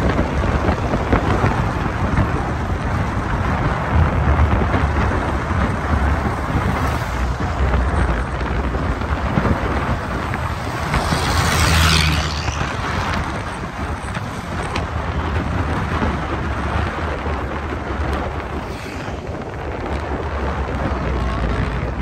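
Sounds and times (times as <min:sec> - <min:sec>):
vehicle rumble on road: 0:00.0 - 0:22.0
wind buffeting microphone: 0:00.0 - 0:22.0.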